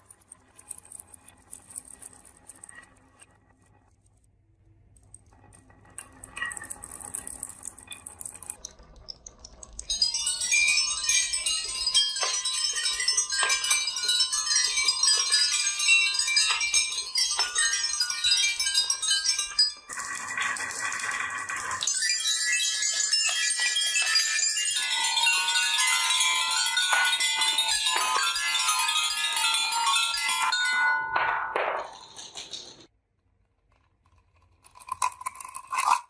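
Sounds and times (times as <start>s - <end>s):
marbles clattering down a run: 0.0s - 3.3s, 5.1s - 30.6s, 31.2s - 32.9s.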